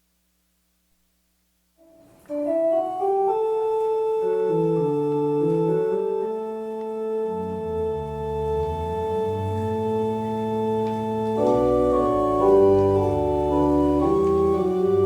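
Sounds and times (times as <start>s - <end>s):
church organ playing slow music: 1.9s - 15.0s.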